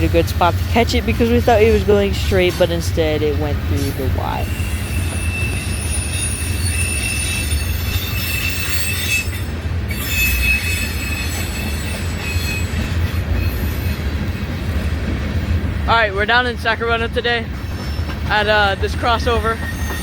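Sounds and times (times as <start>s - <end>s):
low rumble of train cars: 0.0s - 20.0s
train wheels squealing on rails: 0.5s - 15.0s, 16.8s - 20.0s.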